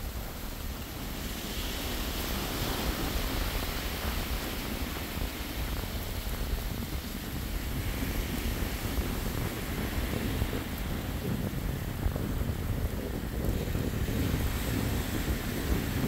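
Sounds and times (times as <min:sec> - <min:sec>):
surf breaking on beach: 0:00.0 - 0:16.0
wind blowing over microphone: 0:00.0 - 0:16.0.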